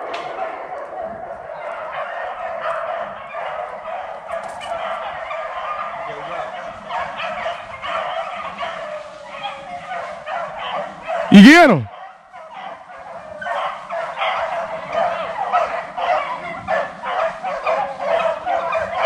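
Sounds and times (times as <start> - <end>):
hounds baying in chorus: 0.0 - 19.0.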